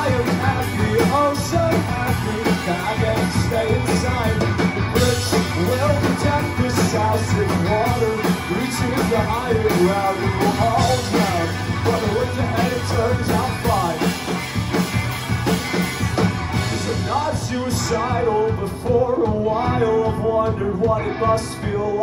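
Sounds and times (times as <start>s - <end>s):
lead vocal singing: 0.0s - 14.4s, 16.6s - 22.0s
rock band playing live: 0.0s - 22.0s.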